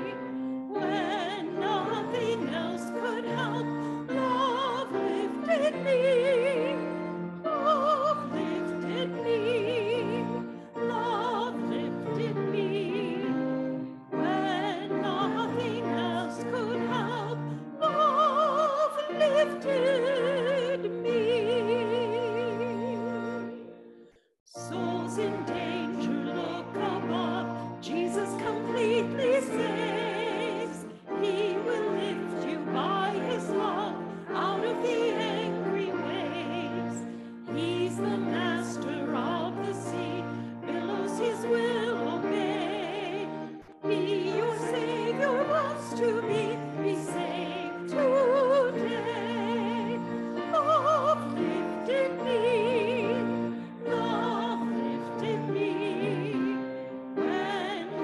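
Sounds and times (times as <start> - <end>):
person singing classical style: 0.0 - 58.0.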